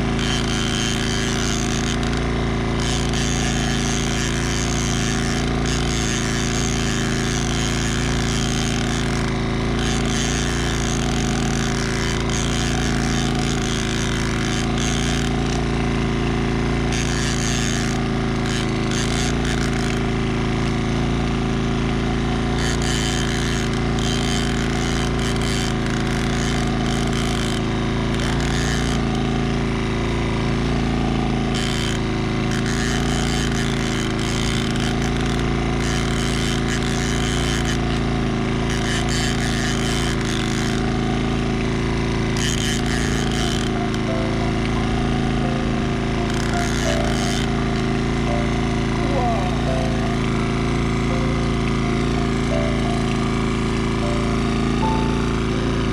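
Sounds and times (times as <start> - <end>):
outboard motor running: 0.0 - 55.9.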